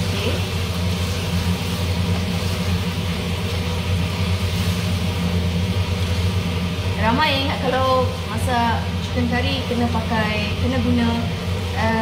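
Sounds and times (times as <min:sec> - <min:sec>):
extractor fan humming: 0:00.0 - 0:12.0.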